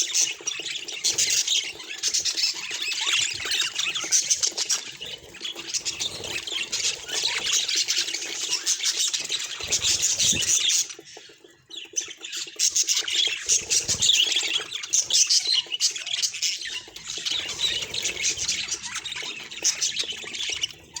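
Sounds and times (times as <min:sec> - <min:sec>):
budgerigars chattering: 0:00.0 - 0:21.0.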